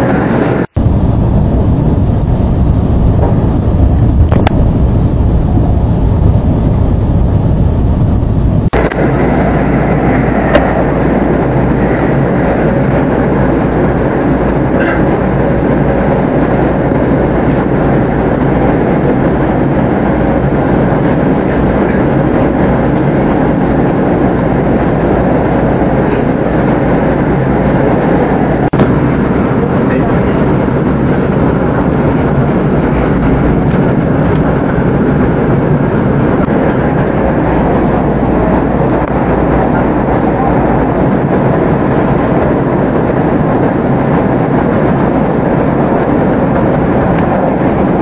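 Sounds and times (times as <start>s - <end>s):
train wheels rumbling on rail: 0.0s - 48.0s.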